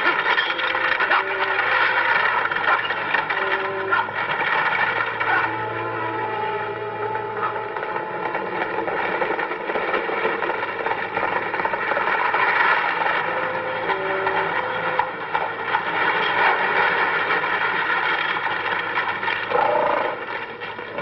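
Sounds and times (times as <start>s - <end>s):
wheels and harness clattering: 0.0s - 21.0s.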